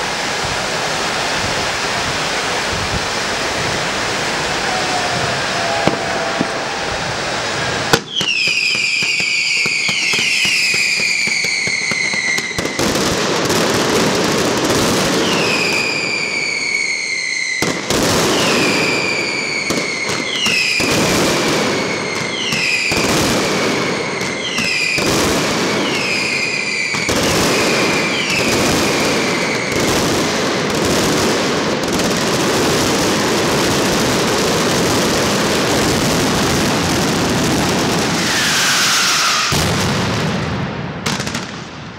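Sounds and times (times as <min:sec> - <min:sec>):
firework bangs and crackling: 0:00.0 - 0:41.9
whistling fireworks: 0:00.0 - 0:41.9.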